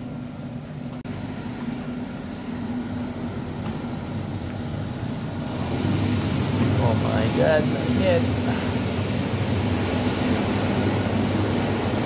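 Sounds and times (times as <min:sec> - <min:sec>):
machinery and ventilation drone: 0:00.0 - 0:12.0.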